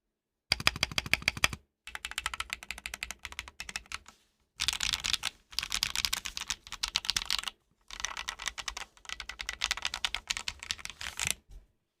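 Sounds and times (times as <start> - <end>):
mechanical keyboard typing: 0.5 - 11.4.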